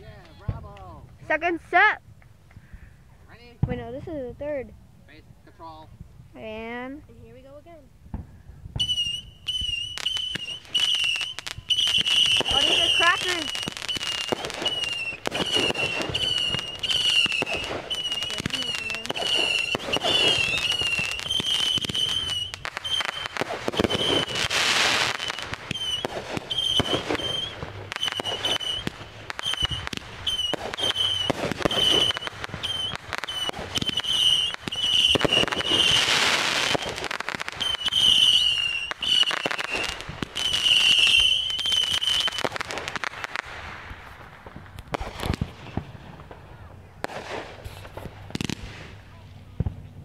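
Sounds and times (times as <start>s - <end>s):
fireworks bangs and pops: 0.0s - 2.7s, 3.4s - 4.5s, 8.0s - 50.0s
fireworks whistling: 8.2s - 49.1s.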